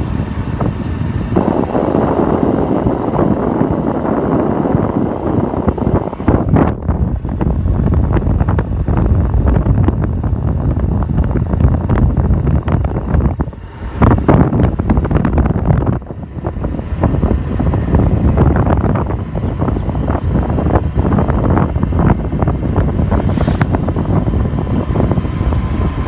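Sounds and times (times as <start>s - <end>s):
vehicle low rumble: 0.0s - 26.0s
wind buffeting microphone: 0.0s - 26.0s.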